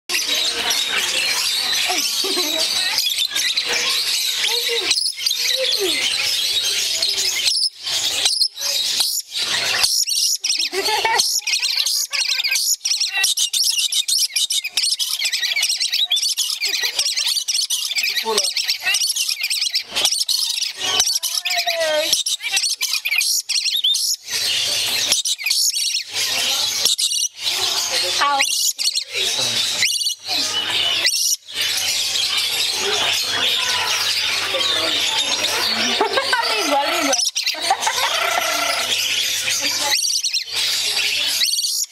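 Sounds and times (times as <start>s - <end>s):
lories screeching: 0.1s - 41.9s.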